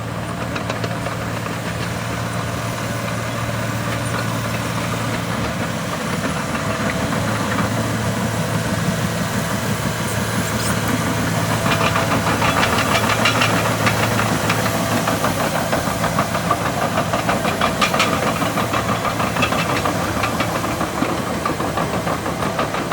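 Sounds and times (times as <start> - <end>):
diesel engine running: 0.0 - 22.9
rapid clatter: 0.4 - 22.9.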